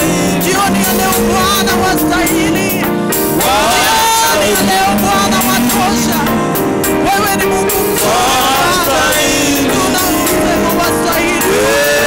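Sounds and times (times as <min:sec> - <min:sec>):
instrumental backing music: 0:00.0 - 0:12.0.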